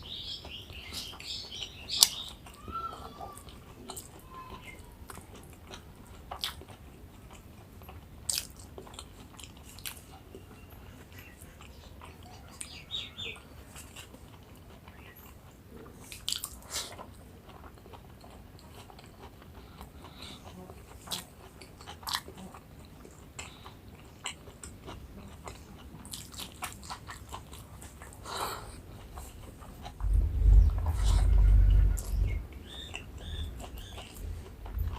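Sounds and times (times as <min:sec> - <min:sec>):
chewing and biting food: 0:03.2 - 0:34.9.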